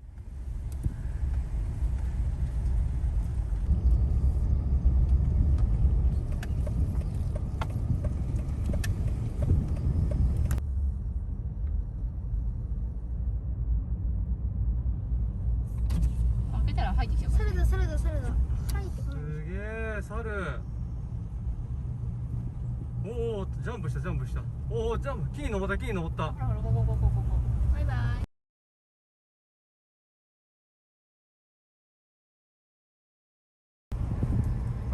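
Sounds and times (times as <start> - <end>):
vehicle interior rumble: 0.0 - 28.3, 33.9 - 34.9.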